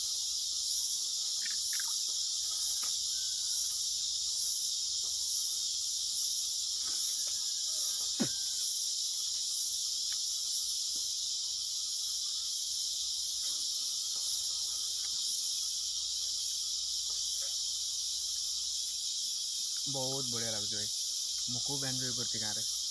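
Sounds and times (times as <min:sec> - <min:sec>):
high-pitched insect chorus: 0:00.0 - 0:22.9.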